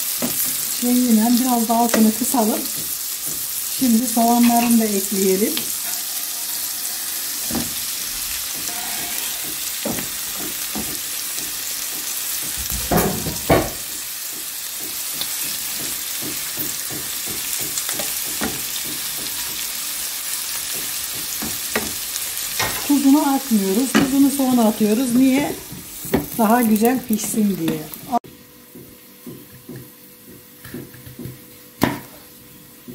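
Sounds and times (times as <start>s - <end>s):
beans sizzling in frying pan: 0.0s - 32.9s.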